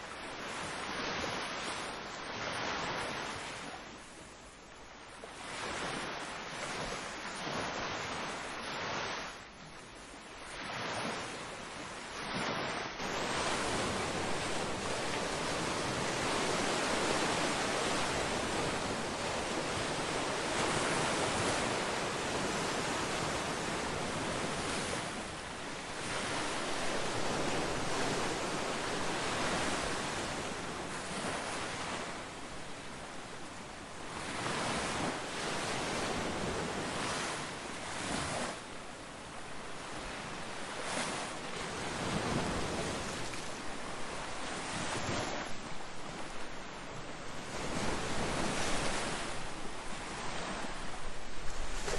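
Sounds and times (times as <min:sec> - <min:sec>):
ocean waves washing in: 0:00.0 - 0:51.9.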